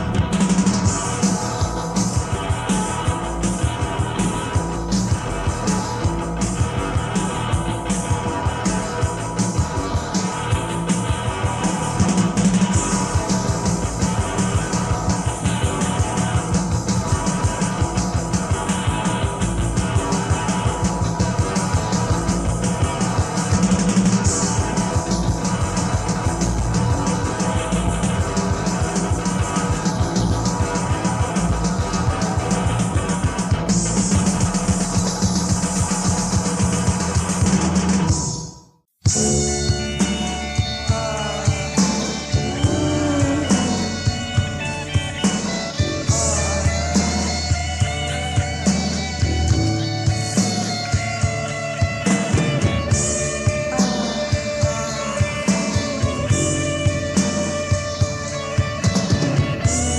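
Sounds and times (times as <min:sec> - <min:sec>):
electric guitar: 0:00.0 - 0:38.4, 0:39.1 - 0:59.9
bass guitar: 0:00.0 - 0:59.9
drum kit: 0:00.0 - 0:59.9
punk rock music: 0:00.0 - 0:59.9.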